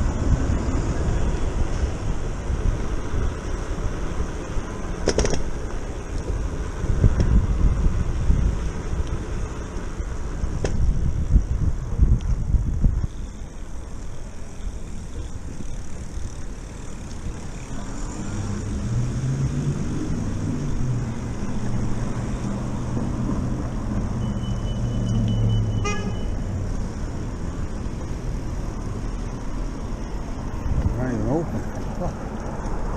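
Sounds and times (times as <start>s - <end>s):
low wind rumble: 0.0s - 24.5s, 25.3s - 32.9s.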